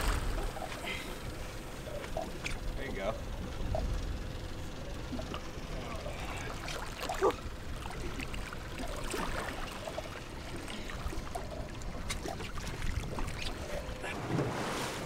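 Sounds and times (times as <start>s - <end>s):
water sloshing against boat hull: 0.0s - 4.0s, 4.6s - 15.0s
low steady rumble: 0.0s - 15.0s.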